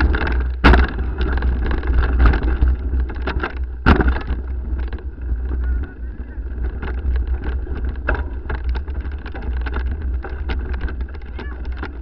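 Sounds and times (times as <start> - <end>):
bike clicking and rattling: 0.0 - 12.0
wind buffeting microphone: 0.0 - 12.0.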